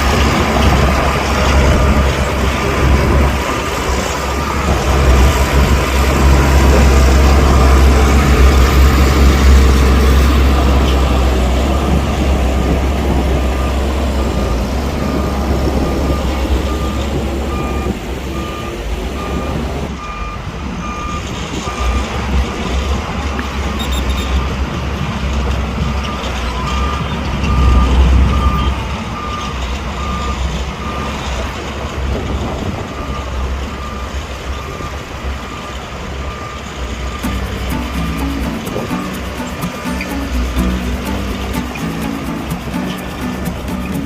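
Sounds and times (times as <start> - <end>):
reversing alarm beeping: 0.0 - 22.8, 23.6 - 24.7, 26.0 - 31.2, 32.9 - 44.0
diesel engine rumble: 0.0 - 44.0.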